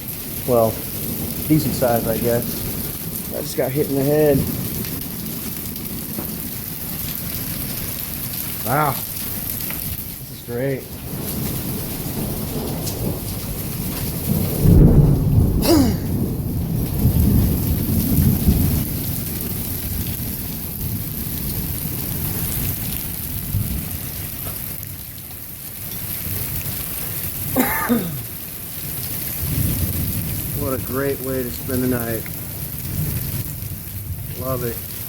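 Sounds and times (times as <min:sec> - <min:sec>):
rolling thunderclap: 0:00.0 - 0:10.2, 0:10.8 - 0:25.5, 0:26.3 - 0:35.0
heavy rain and hail: 0:00.0 - 0:35.0.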